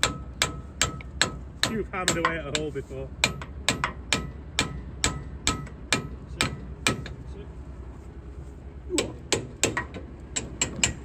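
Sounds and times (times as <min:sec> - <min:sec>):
hammer striking steel: 0:00.0 - 0:07.2, 0:09.0 - 0:11.0.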